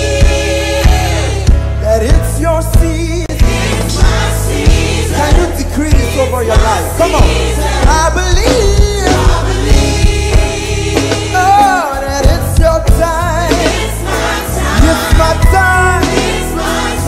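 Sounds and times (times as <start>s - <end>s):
choir singing: 0.0s - 1.7s, 3.3s - 12.0s, 13.2s - 17.0s
drum kit: 0.0s - 17.0s.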